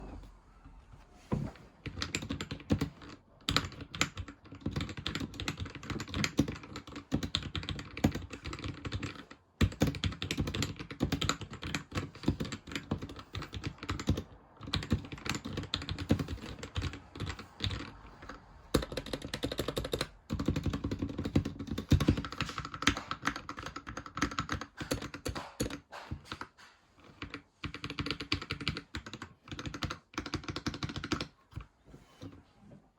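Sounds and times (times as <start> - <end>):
typing on mechanical keyboard: 1.8 - 32.4.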